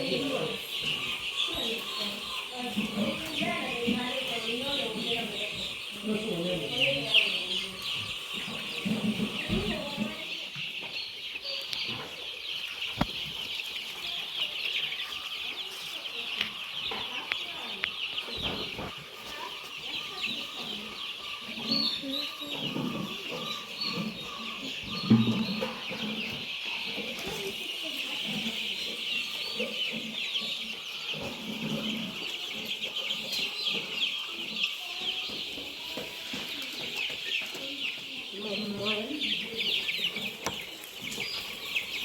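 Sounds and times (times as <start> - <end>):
chicks peeping: 0.0 - 42.0.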